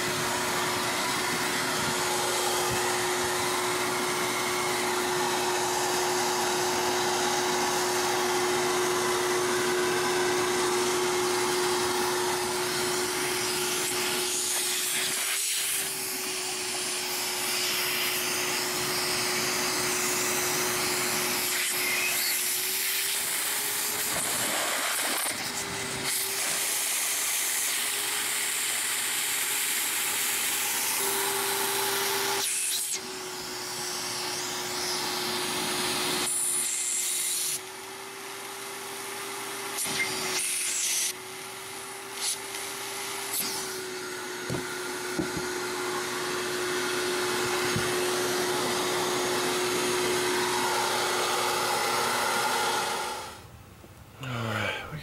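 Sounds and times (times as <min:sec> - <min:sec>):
shop vacuum running: 0:00.0 - 0:53.6.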